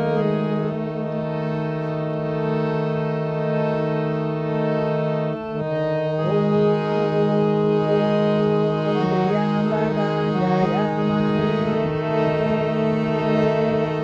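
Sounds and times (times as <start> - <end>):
melody with sliding notes: 0.0 - 14.0
sustained held chords: 0.0 - 14.0.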